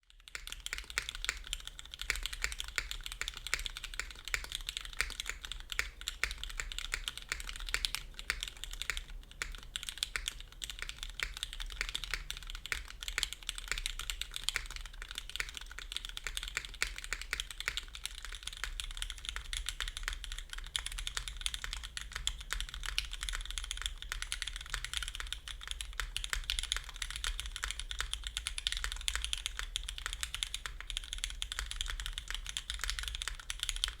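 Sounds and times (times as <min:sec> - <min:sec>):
fast mechanical keyboard typing: 0:00.0 - 0:34.0.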